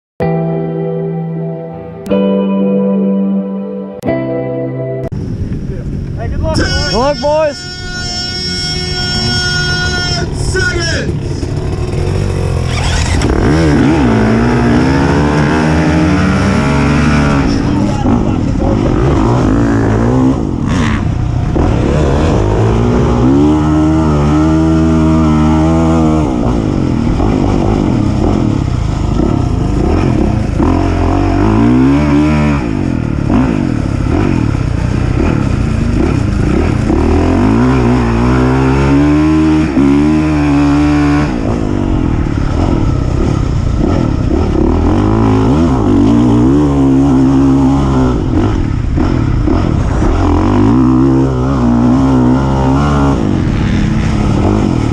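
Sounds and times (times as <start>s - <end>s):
racing engine revving: 8.7s - 54.9s.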